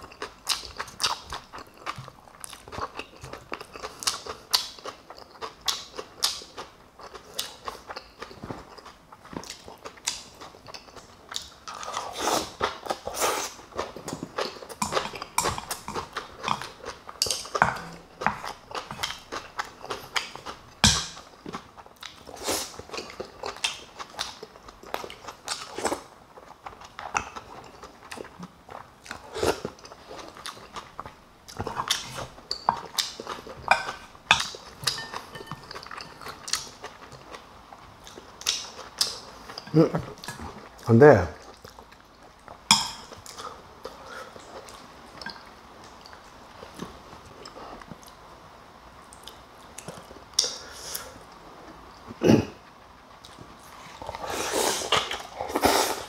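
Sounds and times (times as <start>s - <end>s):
chewing and crunching: 0.0s - 48.3s, 49.0s - 56.0s.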